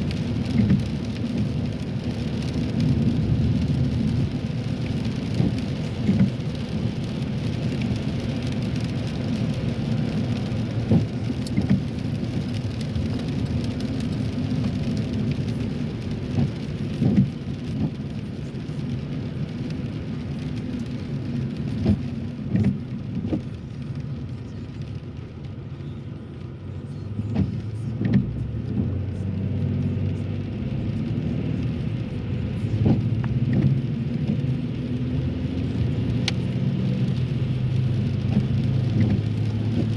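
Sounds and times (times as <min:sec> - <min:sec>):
tyres rumbling on wet road: 0:00.0 - 0:39.9.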